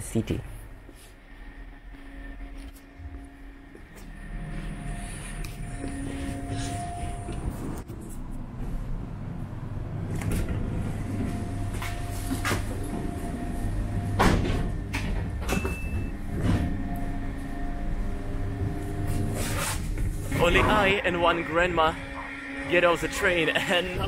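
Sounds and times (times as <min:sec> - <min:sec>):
train carriage running hum: 0:00.0 - 0:24.0.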